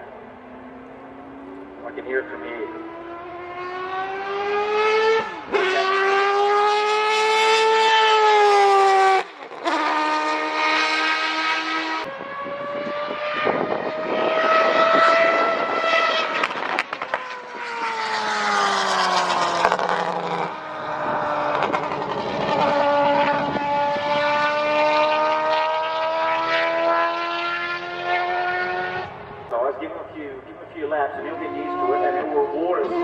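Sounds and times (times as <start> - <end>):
race car engine at high revs: 0.0 - 29.5, 30.6 - 33.0.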